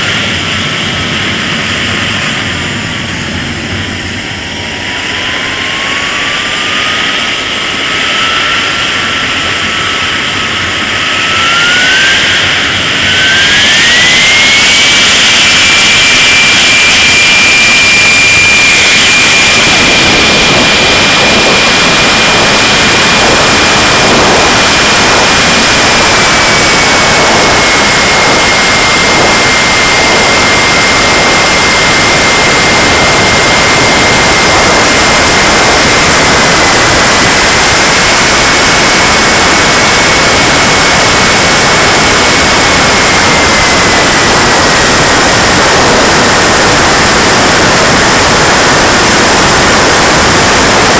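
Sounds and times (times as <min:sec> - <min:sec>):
jet turbine roar and whine: 0:00.0 - 0:50.9.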